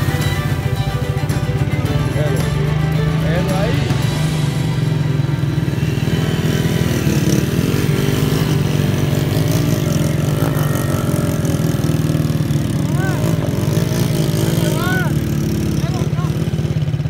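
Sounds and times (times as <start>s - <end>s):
small motorcycle engines puttering: 0.0s - 17.0s.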